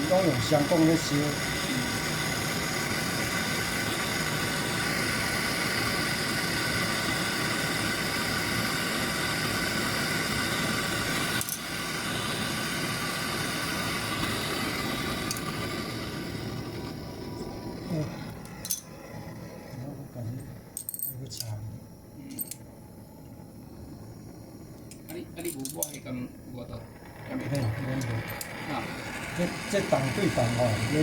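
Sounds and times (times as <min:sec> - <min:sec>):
gas torch hissing: 0:00.0 - 0:31.0.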